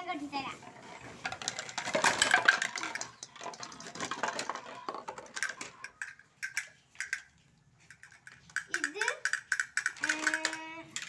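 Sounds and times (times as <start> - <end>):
plastic toys clattering on floor: 0.6 - 11.0.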